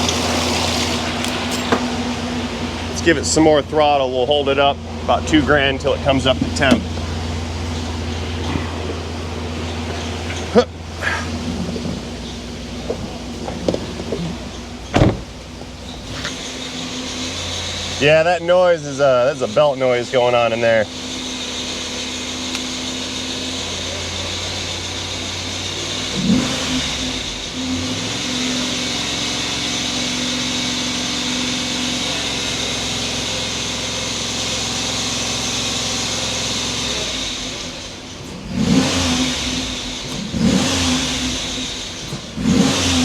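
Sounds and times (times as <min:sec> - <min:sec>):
car engine idling and revving: 0:00.0 - 0:43.0
engine belt chirping: 0:00.0 - 0:43.0.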